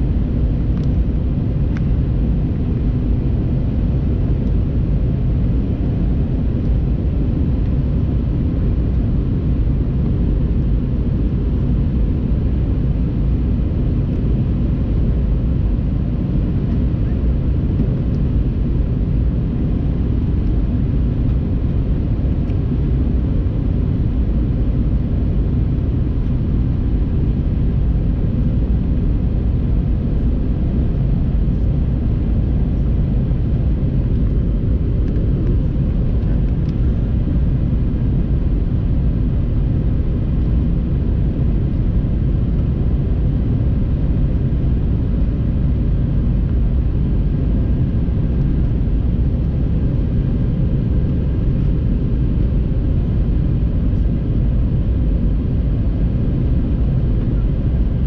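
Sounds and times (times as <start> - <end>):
deep engine rumble: 0.0 - 58.0.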